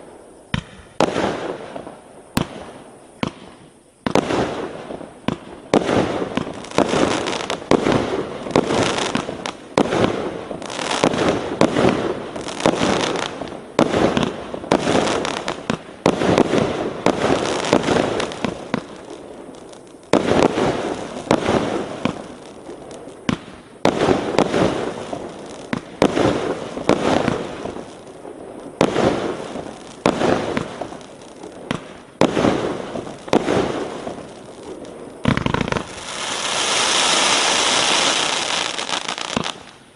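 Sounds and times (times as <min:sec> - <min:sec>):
fireworks bursting with echoes: 0:00.0 - 0:39.9
fireworks launching: 0:00.0 - 0:39.9.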